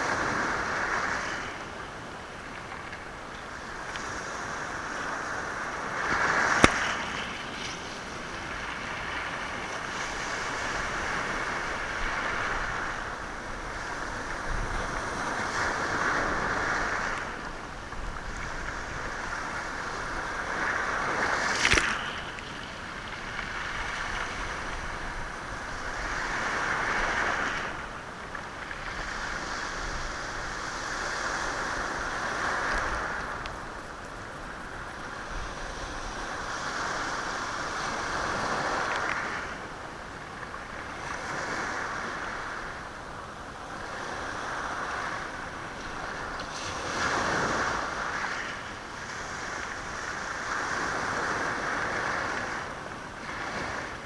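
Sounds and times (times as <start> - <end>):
waves washing over stones: 0.0 - 54.0.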